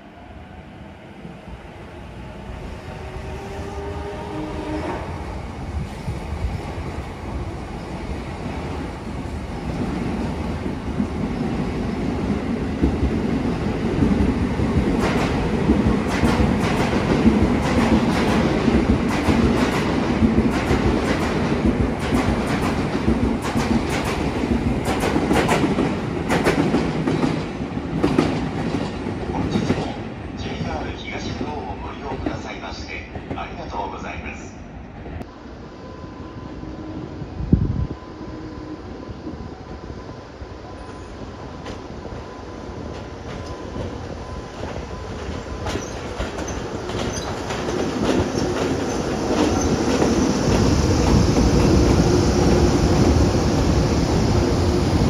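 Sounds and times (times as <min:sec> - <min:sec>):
train rumble: 0:02.4 - 0:55.0.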